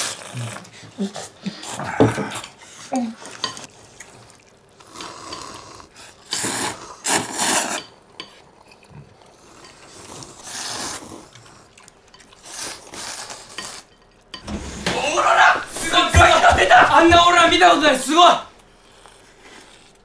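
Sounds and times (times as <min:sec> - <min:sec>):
people slurping noodles: 0:00.0 - 0:13.9, 0:14.5 - 0:20.0.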